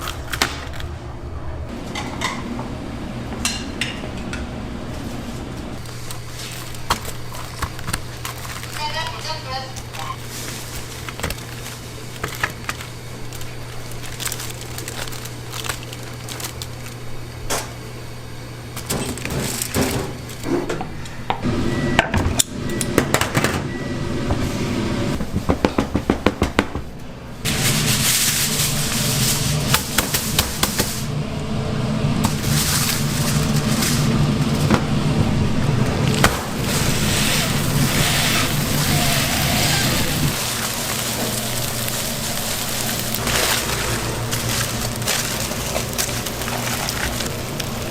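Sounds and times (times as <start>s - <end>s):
steady low hum: 0.2s - 47.9s.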